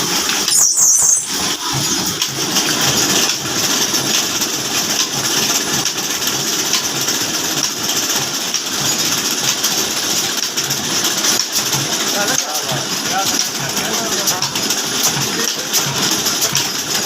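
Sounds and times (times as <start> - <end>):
stationary diesel engine running: 0.0 - 17.0.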